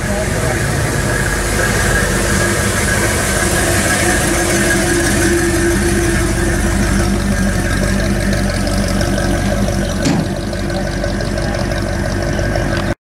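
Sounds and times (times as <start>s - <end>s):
car engine rolling past: 0.0s - 13.0s.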